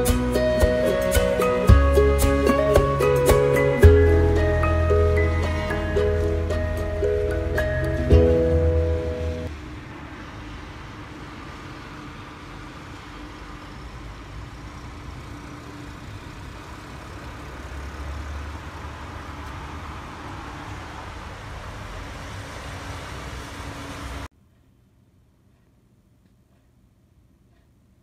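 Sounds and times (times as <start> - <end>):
vehicle engine and tyre rumble: 0.0 - 24.3.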